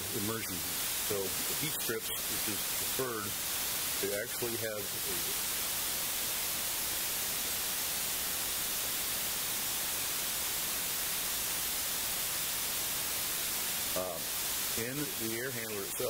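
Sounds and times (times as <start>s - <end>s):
recording hiss: 0.0s - 16.0s.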